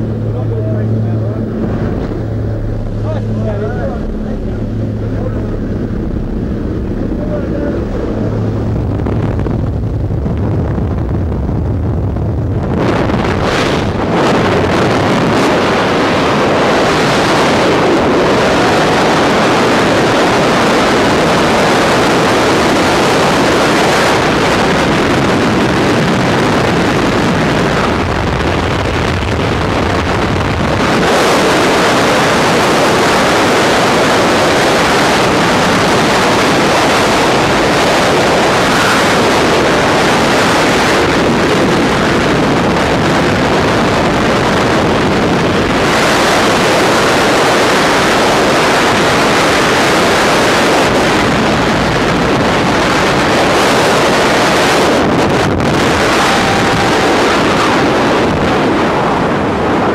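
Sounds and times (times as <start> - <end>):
airplane engine drone: 0.0 - 59.9
heavy wind on microphone: 0.0 - 59.9.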